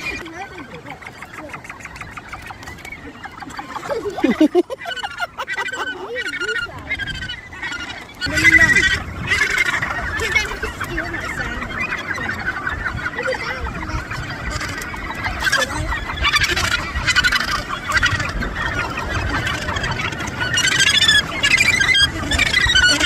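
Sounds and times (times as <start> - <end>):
gannet colony calling: 0.0 - 23.0.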